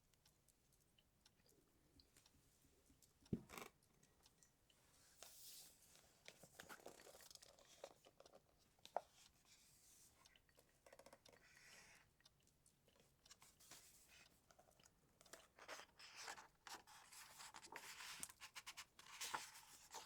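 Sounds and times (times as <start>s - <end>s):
small clicks and crunchy noises: 0.0s - 20.0s.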